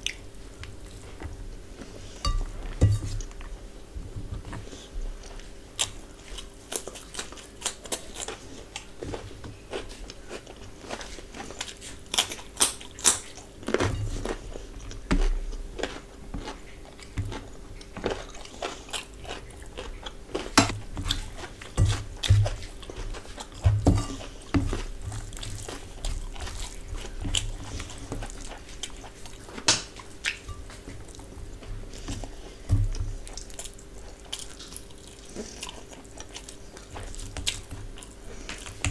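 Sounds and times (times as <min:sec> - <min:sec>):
person chewing and biting food: 0:05.2 - 0:38.9.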